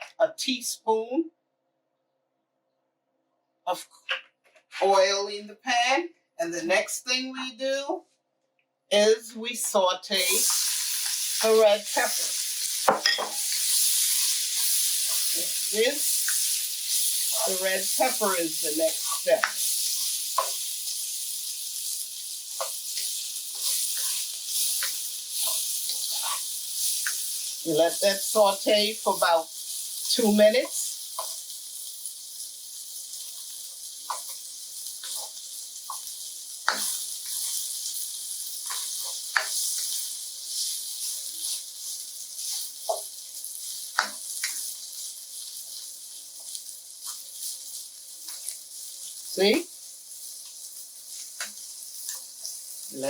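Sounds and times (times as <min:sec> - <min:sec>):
pepper sizzling in oil: 0:09.6 - 0:53.0.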